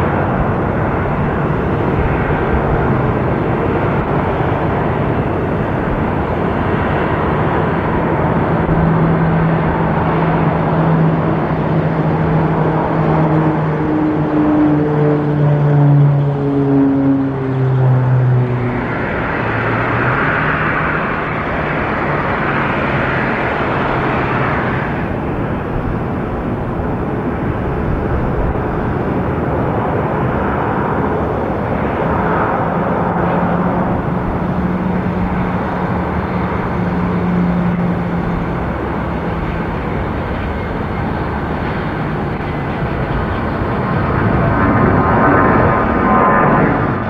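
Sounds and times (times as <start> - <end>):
jet engines at takeoff power: 0.0 - 47.0
low hum: 0.0 - 47.0
turboprop plane climbing: 0.0 - 47.0.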